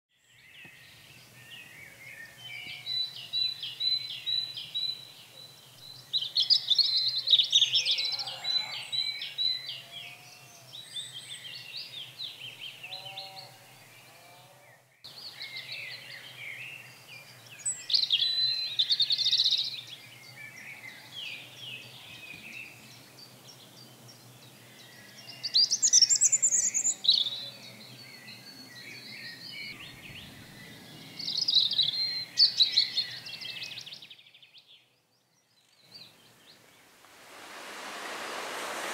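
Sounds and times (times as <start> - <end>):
songbirds singing: 0.1 - 38.9.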